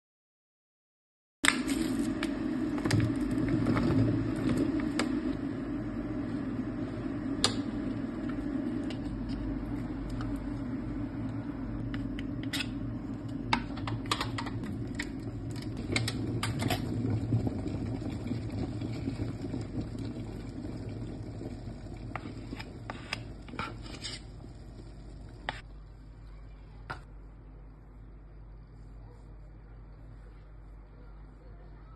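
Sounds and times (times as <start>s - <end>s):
low mechanical hum: 1.5s - 31.9s.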